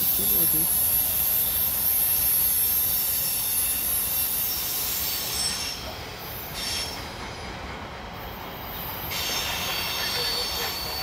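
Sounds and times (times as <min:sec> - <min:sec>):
freight train rumbling: 0:00.0 - 0:11.0
train wheel squeal: 0:00.0 - 0:11.0.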